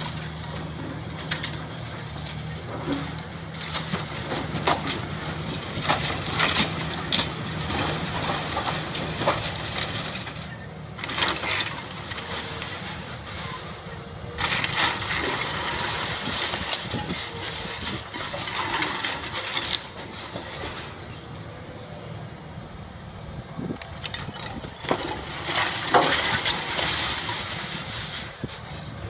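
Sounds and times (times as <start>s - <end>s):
falling debris: 0.0s - 21.2s, 23.6s - 29.0s
masonry cracking and crashing: 0.0s - 21.4s, 23.6s - 29.0s
excavator diesel engine running: 0.0s - 29.0s.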